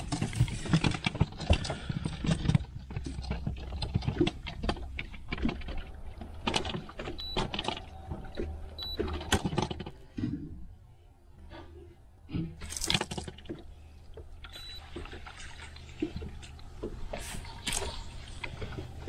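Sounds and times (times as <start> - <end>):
fishing gear clicking and rattling: 0.0 - 10.2, 12.5 - 19.0.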